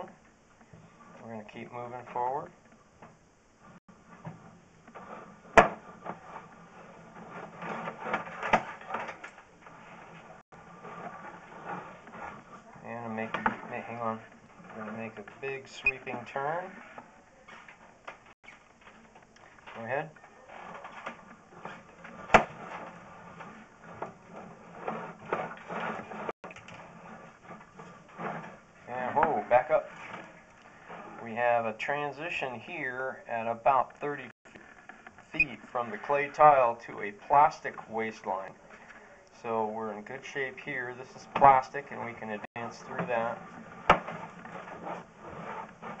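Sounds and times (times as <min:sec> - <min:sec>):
cable scraping and clattering in drain: 0:04.1 - 0:32.8, 0:33.6 - 0:46.0.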